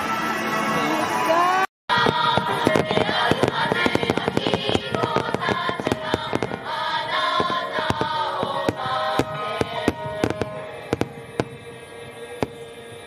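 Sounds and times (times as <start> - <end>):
music playing: 0.0 - 13.0
firework shells bursting: 1.9 - 13.0.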